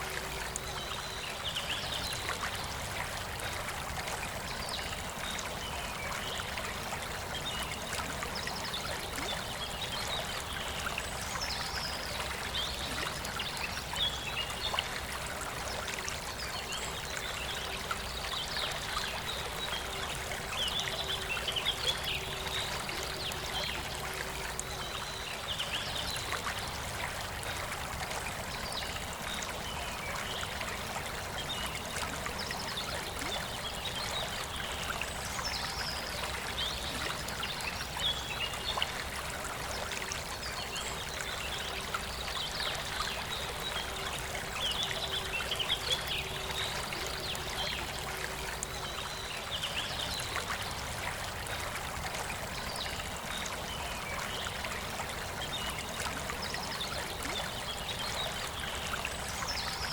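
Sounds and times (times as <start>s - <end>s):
river flowing and trickling: 0.0s - 59.9s.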